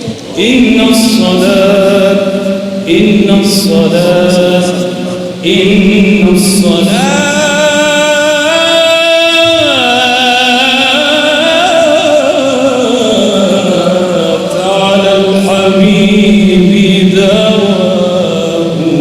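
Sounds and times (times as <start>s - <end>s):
man singing melismatic phrase: 0.3s - 19.0s.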